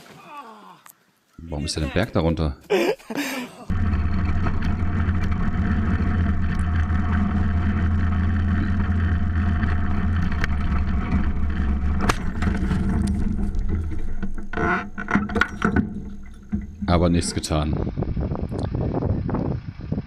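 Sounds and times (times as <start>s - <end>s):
small buggy engine running: 3.7s - 20.0s.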